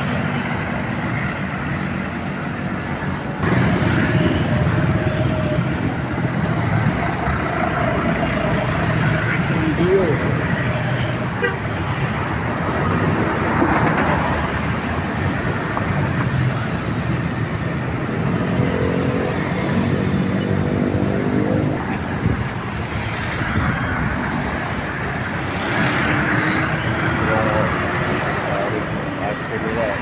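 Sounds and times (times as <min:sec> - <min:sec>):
road traffic passing: 0:00.0 - 0:30.0.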